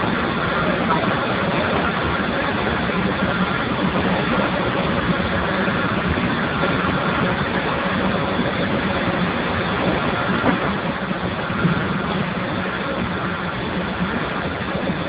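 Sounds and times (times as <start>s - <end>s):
steam boiler running: 0.0s - 15.0s.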